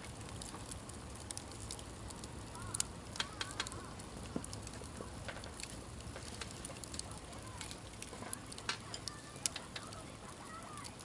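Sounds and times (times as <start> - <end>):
campfire crackling and popping: 0.0 - 11.0
fire hissing: 0.0 - 11.0.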